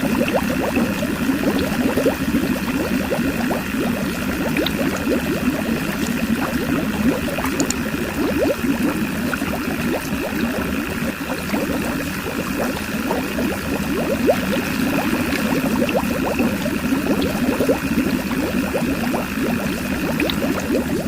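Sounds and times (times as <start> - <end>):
electric pump whine: 0.0 - 21.0
water gurgling and splashing: 0.0 - 21.0.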